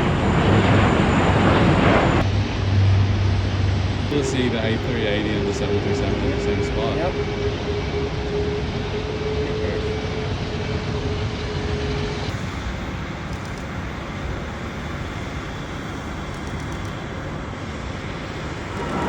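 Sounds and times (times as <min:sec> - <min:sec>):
high hum: 0:00.0 - 0:19.0
jet engines rumbling: 0:00.0 - 0:19.0.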